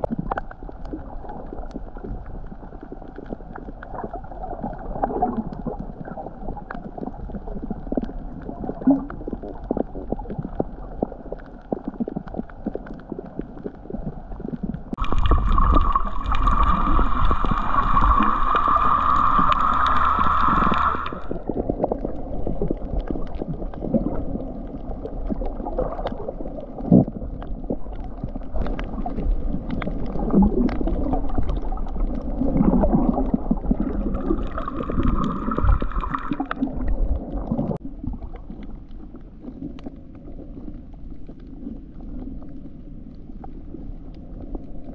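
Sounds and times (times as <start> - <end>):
muffled underwater rumble and gurgle: 0.0 - 44.9
small crackling clicks: 0.0 - 44.9.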